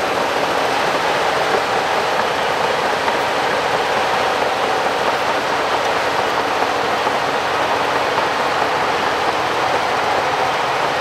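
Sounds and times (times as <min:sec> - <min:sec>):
bulldozer engine and tracks: 0:00.0 - 0:11.0.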